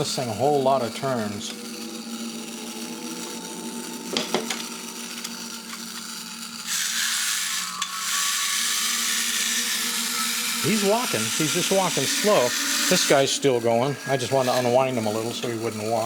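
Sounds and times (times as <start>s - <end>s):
clockwork motor whirring: 0.0s - 16.0s.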